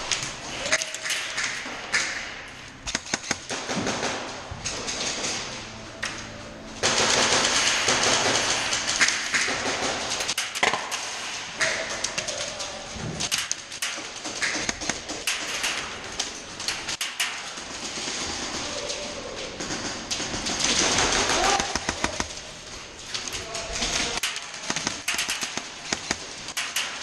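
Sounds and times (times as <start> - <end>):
airsoft guns firing bursts: 2.8 - 5.7, 6.8 - 27.0.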